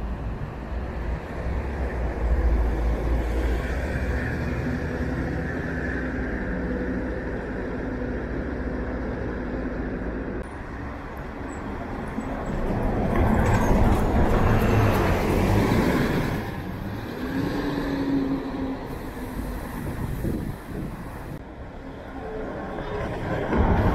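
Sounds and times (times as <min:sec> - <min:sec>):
bus driving past: 0:00.0 - 0:23.9
street traffic noise: 0:00.0 - 0:23.9.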